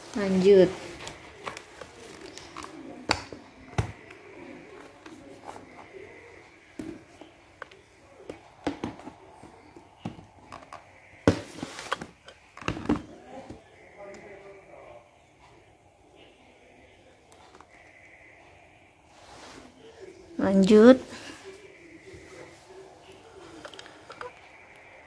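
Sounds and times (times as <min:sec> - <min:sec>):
faint high whine: 0:00.0 - 0:20.4.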